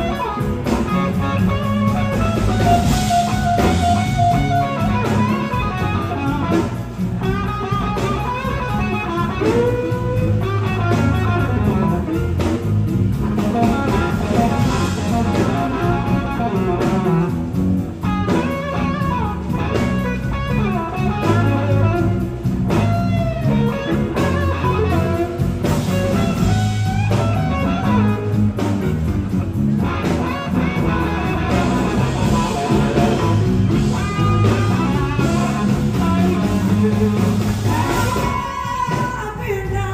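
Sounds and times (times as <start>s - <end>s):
electric guitar lead lines: 0.0s - 39.8s
bass guitar: 0.0s - 39.9s
drums: 0.0s - 39.9s.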